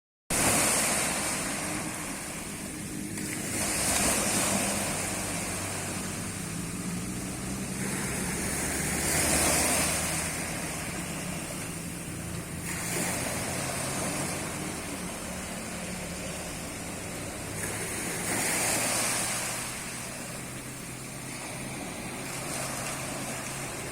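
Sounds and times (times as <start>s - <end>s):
sea waves breaking on beach: 0.3s - 23.9s.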